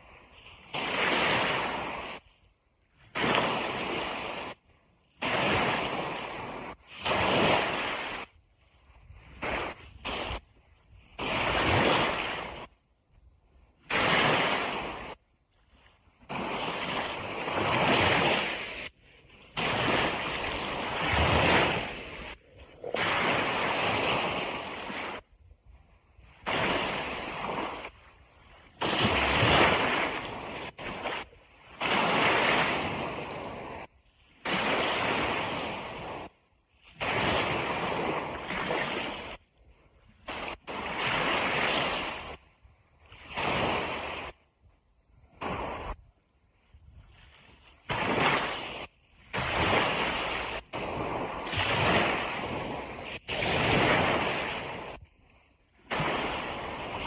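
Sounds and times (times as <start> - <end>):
ocean surf washing on beach: 0.0 - 44.5, 45.1 - 57.0.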